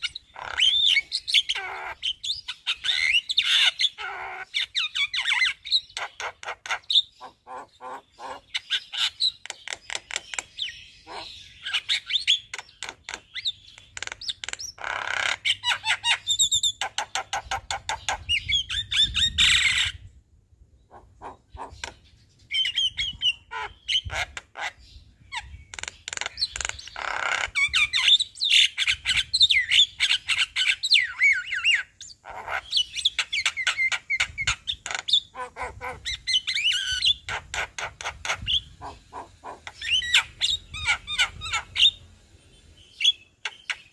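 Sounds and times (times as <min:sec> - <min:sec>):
bird chattering and whistling: 0:00.0 - 0:20.1, 0:20.9 - 0:42.1, 0:42.9 - 0:43.9.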